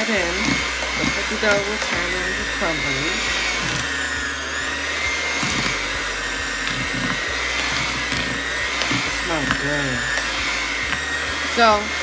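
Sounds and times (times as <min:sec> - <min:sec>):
beaters churning dough: 0:00.0 - 0:12.0
electric hand mixer whine: 0:00.0 - 0:12.0.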